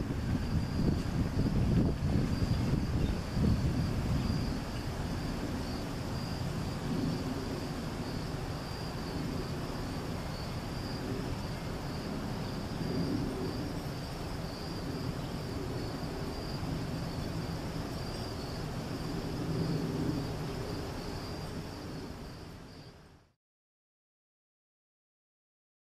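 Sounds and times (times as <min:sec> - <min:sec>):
crickets chirping: 0:00.0 - 0:23.4.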